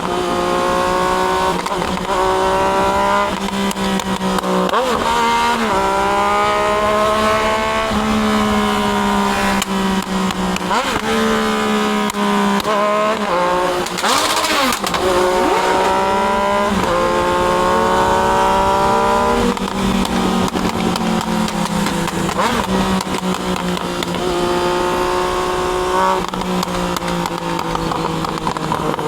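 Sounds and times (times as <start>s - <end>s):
motorcycle engine pulling hard: 0.0s - 29.0s.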